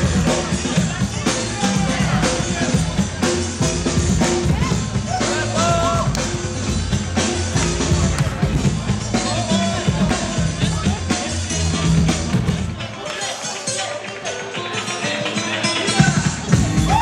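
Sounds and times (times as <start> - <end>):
loud music with heavy drum beat: 0.0 - 17.0.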